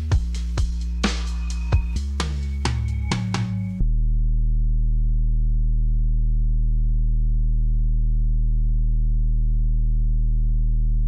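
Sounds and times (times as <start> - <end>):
low synthesizer bass note: 0.0 - 11.0.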